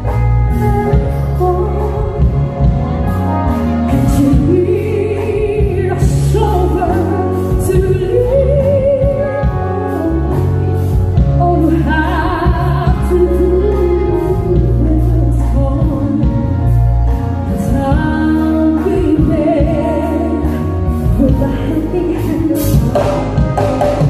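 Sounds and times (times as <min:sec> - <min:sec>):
woman singing a slow ballad: 0:00.0 - 0:03.2, 0:03.8 - 0:24.0
instrumental backing with heavy bass: 0:00.0 - 0:24.0.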